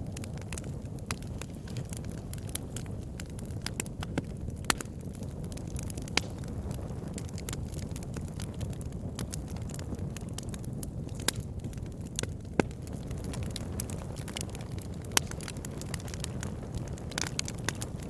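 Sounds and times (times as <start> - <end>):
burning wood crackling and popping: 0.0 - 18.0
campfire flames rumbling: 0.0 - 18.0.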